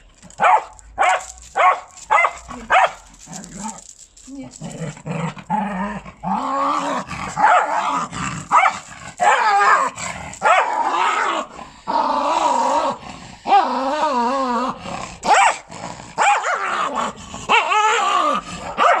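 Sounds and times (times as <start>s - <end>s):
small dog growling and barking: 0.4s - 3.9s, 4.6s - 19.0s.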